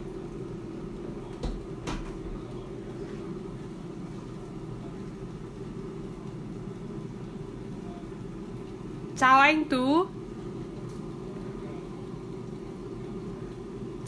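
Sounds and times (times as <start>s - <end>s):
air fryer humming: 0.0s - 14.0s.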